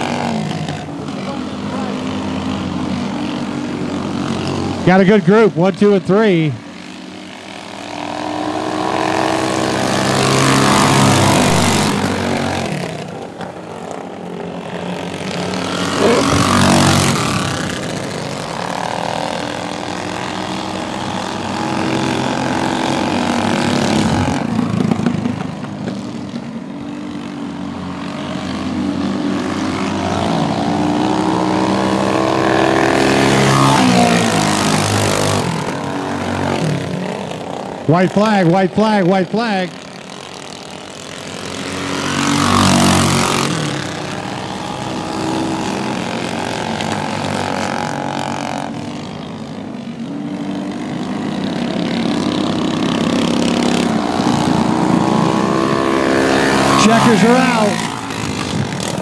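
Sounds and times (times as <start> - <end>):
minibike engines racing: 0.0 - 59.0.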